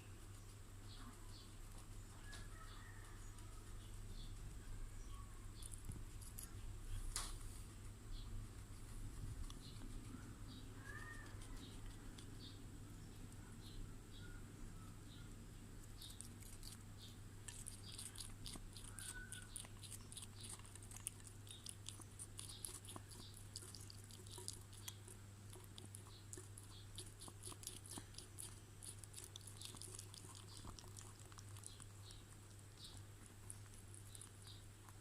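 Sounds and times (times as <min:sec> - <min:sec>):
faint low hum: 0:00.0 - 0:35.0
guinea pig crunching food: 0:00.0 - 0:35.0.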